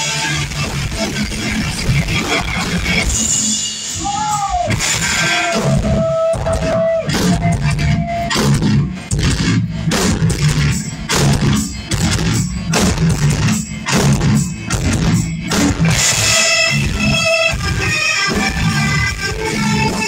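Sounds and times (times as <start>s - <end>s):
distorted guitar riff: 0.0s - 20.0s
drums: 0.0s - 20.0s
live rock band playing: 0.0s - 20.0s.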